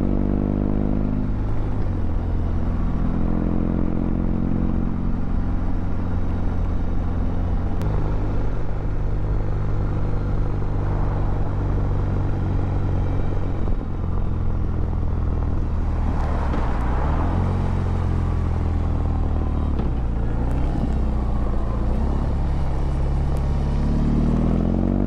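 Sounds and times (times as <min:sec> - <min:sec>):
motorcycle engine running: 0:01.3 - 0:24.6.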